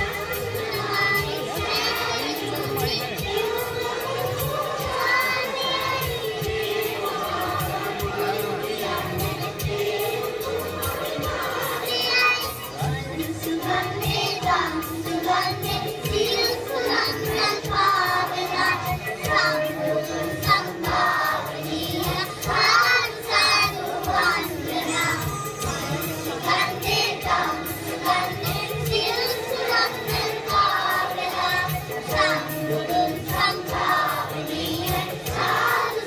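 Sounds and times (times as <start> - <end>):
children's choir singing: 0.0 - 36.0
musical accompaniment: 0.0 - 36.0.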